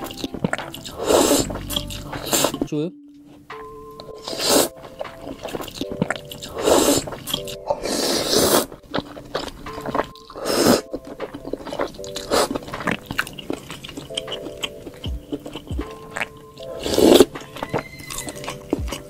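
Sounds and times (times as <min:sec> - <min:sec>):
chewing: 0:00.0 - 0:02.7, 0:04.0 - 0:19.0
soft background music: 0:00.0 - 0:19.0
noodle slurping: 0:00.7 - 0:02.6, 0:04.2 - 0:19.0.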